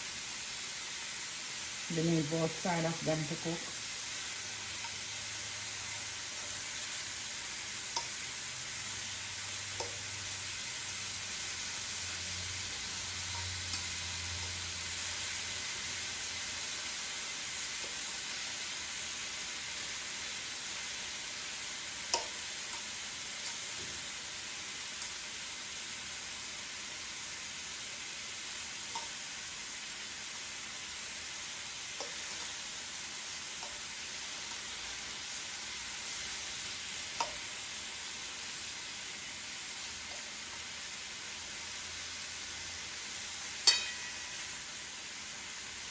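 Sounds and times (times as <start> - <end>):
shrimp sizzling in oil: 0.0 - 45.9.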